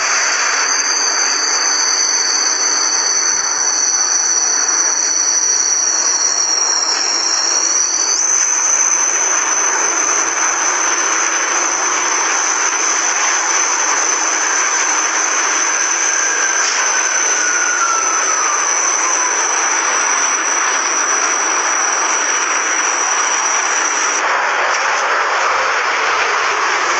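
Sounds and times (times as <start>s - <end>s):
fighter jet engine roar: 0.0s - 26.9s.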